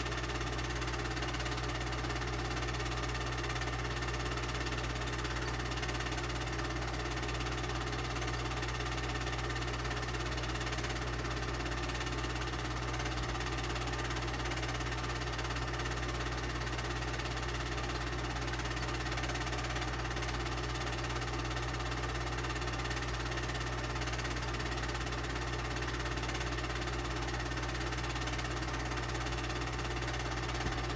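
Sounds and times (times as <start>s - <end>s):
film projector running: 0.0s - 30.9s.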